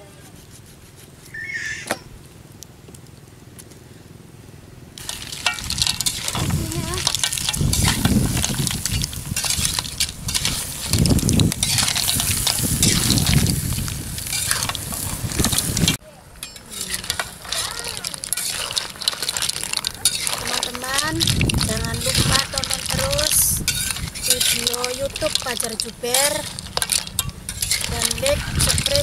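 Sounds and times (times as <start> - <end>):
seafood sizzling in a wok: 5.0 - 29.0
spatula scraping a wok: 5.0 - 29.0.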